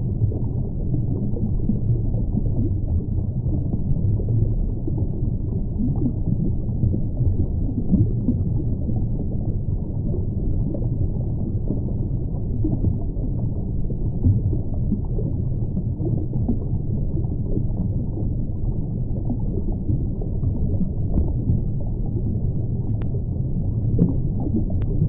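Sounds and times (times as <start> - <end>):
faint crackling and popping: 0.0 - 25.0
underwater low rumble: 0.0 - 25.0.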